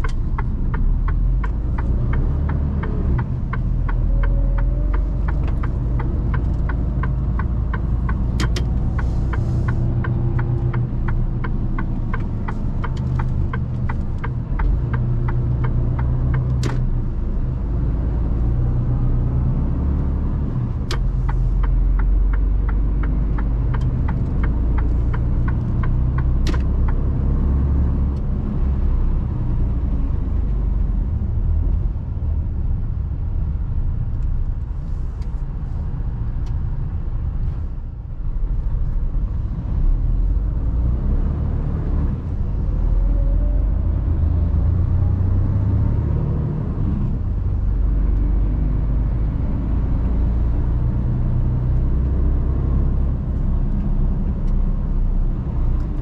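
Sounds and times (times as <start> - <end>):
truck engine rumble from cab: 0.0 - 56.0.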